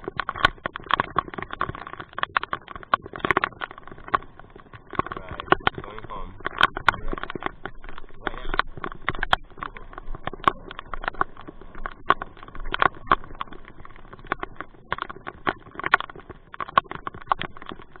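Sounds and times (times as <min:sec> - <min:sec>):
raindrops ticking on hard surface: 0:00.0 - 0:18.0.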